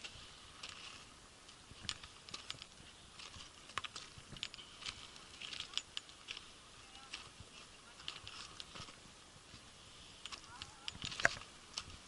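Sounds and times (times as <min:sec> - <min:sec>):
footsteps on gritty ground: 0:00.0 - 0:09.7
faint steady hiss: 0:00.0 - 0:12.0.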